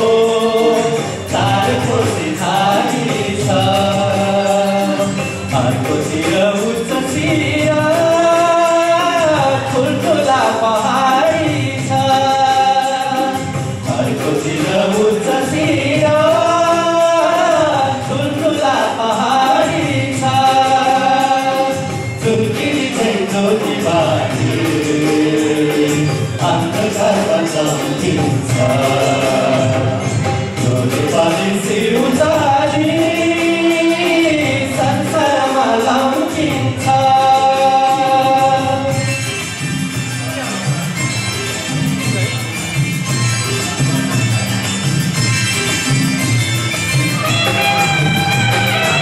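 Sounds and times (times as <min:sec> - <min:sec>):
men singing together: 0:00.0 - 0:39.4
instrumental accompaniment: 0:00.0 - 0:49.0.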